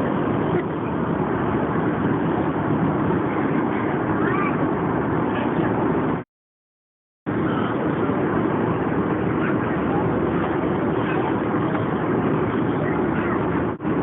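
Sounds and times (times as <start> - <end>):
faint voices: 0.0 - 6.2, 7.3 - 14.0
airliner cabin engine roar: 0.0 - 6.3, 7.3 - 14.0.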